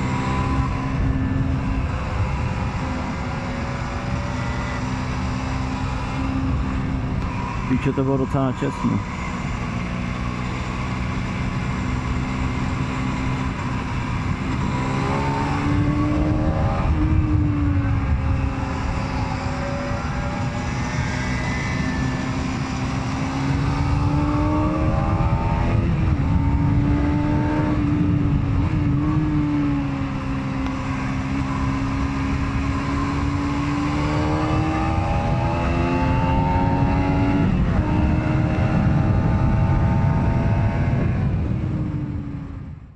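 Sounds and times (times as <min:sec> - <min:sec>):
motorcycle engine revving through gears: 0:00.0 - 0:42.6
wind rushing over microphone: 0:00.0 - 0:42.9.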